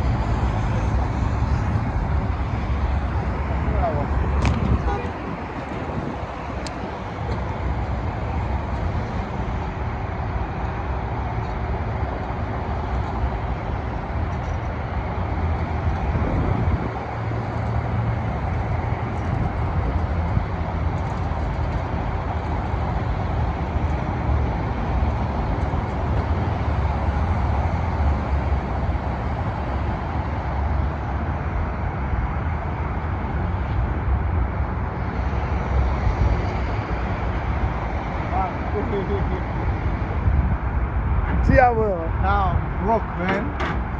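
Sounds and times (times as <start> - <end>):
low vehicle rumble: 0.0 - 43.9.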